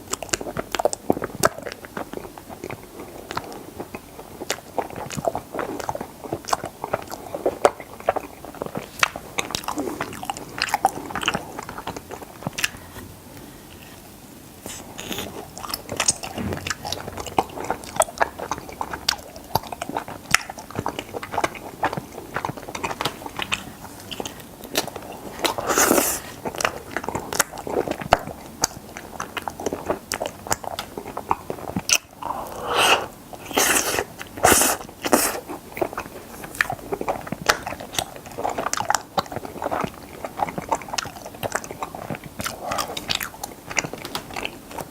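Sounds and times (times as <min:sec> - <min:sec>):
chewing with wet mouth clicks: 0:00.0 - 0:12.8, 0:14.6 - 0:44.9.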